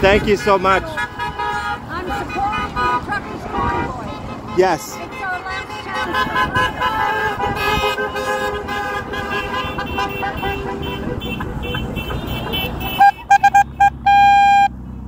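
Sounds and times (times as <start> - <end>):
vehicle horns honking: 0.0 - 14.8
traffic noise: 0.0 - 15.0
near horn short loud honks: 0.1 - 14.7.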